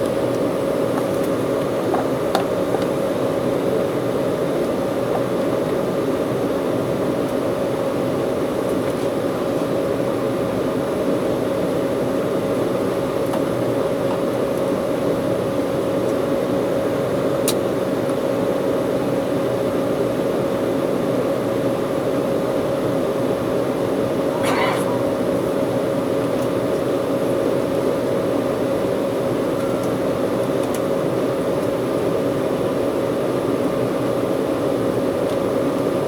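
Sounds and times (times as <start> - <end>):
jet engines inside airliner cabin: 0.0 - 36.0.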